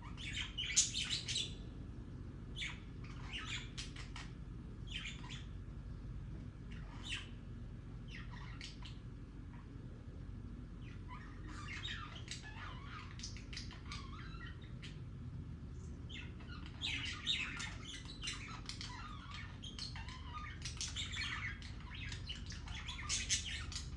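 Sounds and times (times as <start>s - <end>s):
budgies warbling and chirping: 0.0s - 23.9s.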